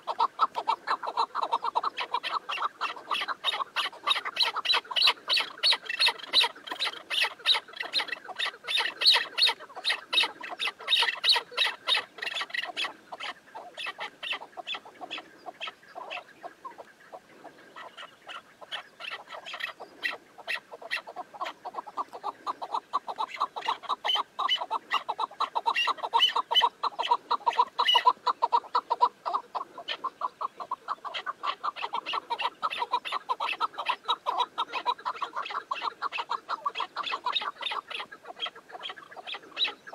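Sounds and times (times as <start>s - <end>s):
partridges calling: 0.0s - 39.9s.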